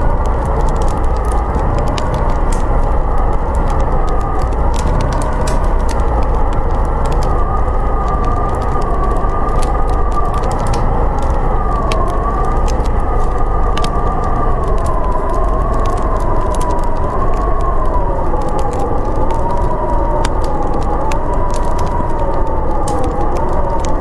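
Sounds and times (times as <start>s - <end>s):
howling snowstorm wind: 0.0s - 24.0s
wood fire crackling: 0.0s - 24.0s.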